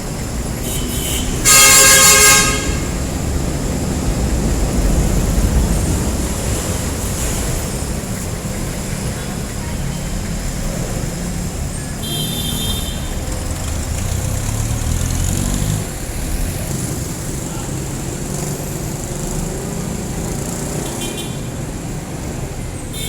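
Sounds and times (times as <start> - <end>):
vehicle engines running: 0.0 - 22.9.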